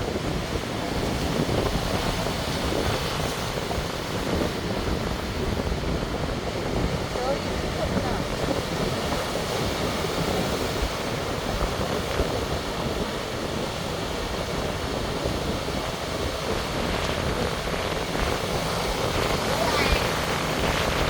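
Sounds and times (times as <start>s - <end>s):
sea waves washing ashore: 0.0s - 21.0s
wind rumbling on microphone: 0.0s - 21.0s.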